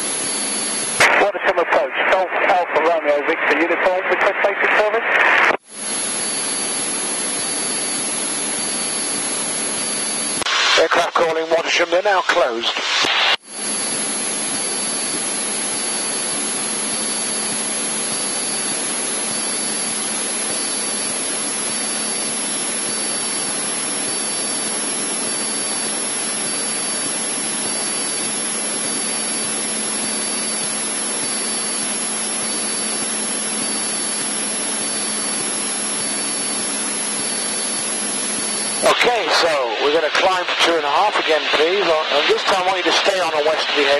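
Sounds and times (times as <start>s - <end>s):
airplane engine and propeller drone: 0.0s - 4.9s, 5.6s - 12.3s, 13.4s - 43.9s.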